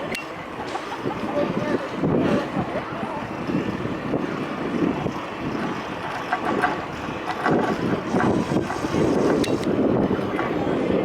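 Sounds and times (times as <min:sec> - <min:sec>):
street and vehicle noise: 0:00.0 - 0:11.0
wind rumbling on microphone: 0:00.0 - 0:11.0.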